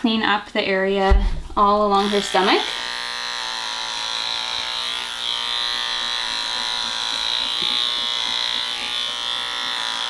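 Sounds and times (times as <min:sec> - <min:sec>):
pet clippers humming: 0:01.6 - 0:10.0.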